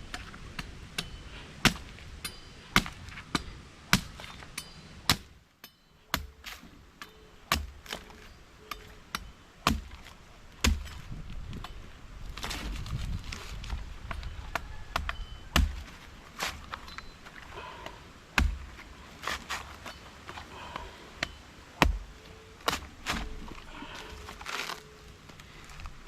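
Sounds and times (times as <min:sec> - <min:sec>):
machete chopping coconuts: 0:00.1 - 0:05.4, 0:06.1 - 0:24.9.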